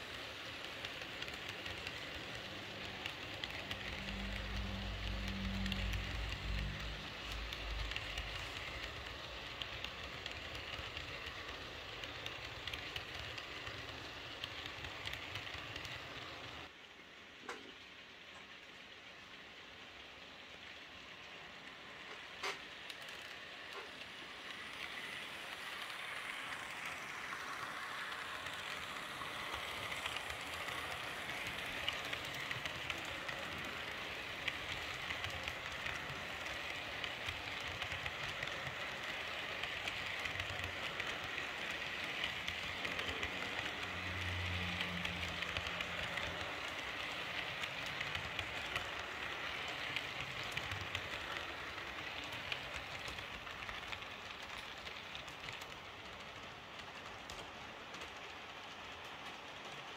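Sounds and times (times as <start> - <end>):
model train wheels rattling: 0.0 - 16.7, 20.6 - 59.9.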